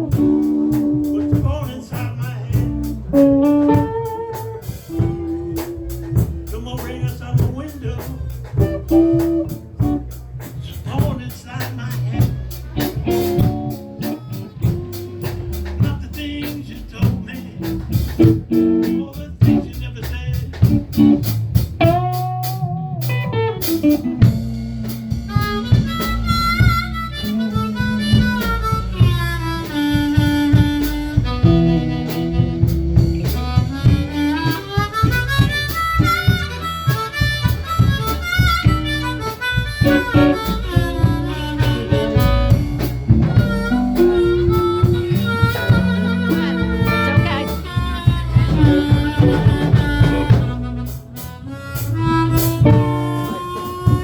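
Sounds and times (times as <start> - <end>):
guitar bass and drum backing: 0.0 - 54.0
lead melody with bent notes: 0.0 - 54.0.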